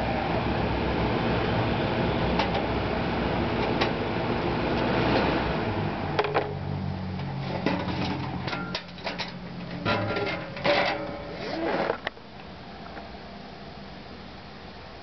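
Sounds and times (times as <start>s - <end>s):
fan motor hum: 0.0s - 14.8s
fan air rush: 0.0s - 15.0s.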